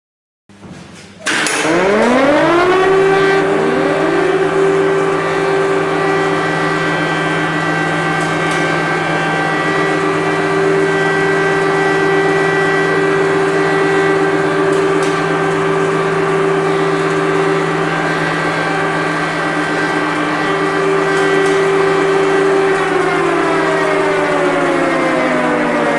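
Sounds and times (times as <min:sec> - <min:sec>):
civil defence siren wailing: 0:01.3 - 0:25.9.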